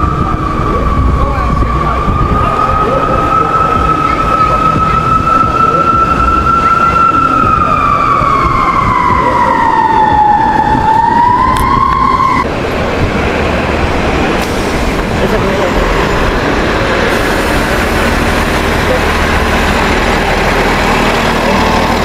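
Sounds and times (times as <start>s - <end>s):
emergency siren wailing: 0.0s - 12.5s, 15.2s - 22.0s
city traffic noise: 0.0s - 22.0s.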